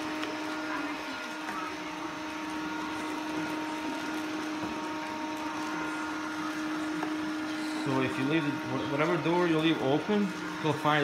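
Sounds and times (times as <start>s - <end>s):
robot vacuum humming and whining: 0.0s - 11.0s.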